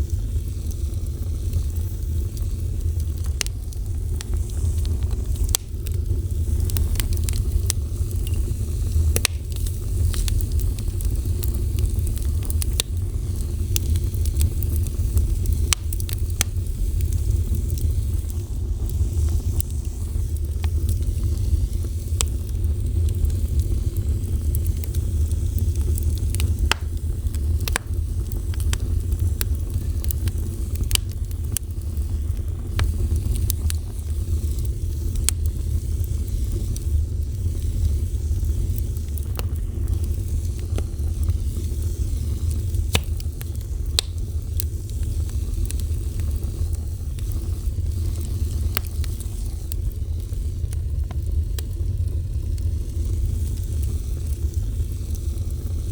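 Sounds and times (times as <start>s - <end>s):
fire crackling and popping: 0.0s - 55.9s
wood fire roaring: 0.0s - 55.9s.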